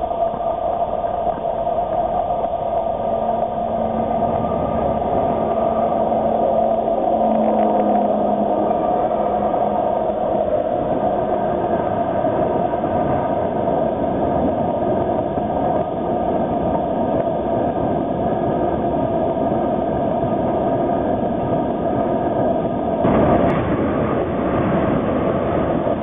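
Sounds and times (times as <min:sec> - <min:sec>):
train wheels rumbling on rail: 0:00.0 - 0:17.6, 0:22.2 - 0:26.0
steady humming tone: 0:00.0 - 0:26.0.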